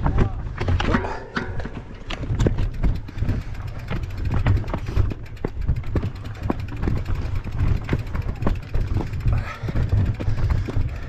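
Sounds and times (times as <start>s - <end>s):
bike rattling knocks: 0.0s - 11.0s
continuous low rumble: 0.0s - 11.0s.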